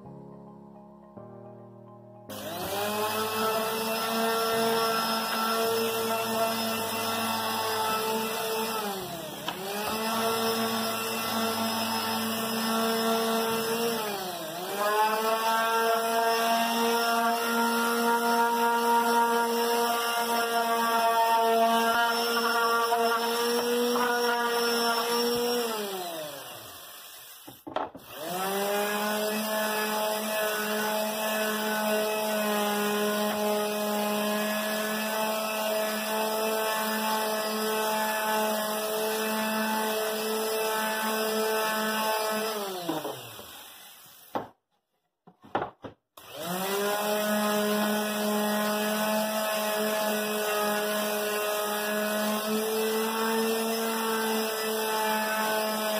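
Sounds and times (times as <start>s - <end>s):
electric sander whining: 2.3s - 44.4s, 46.2s - 55.9s.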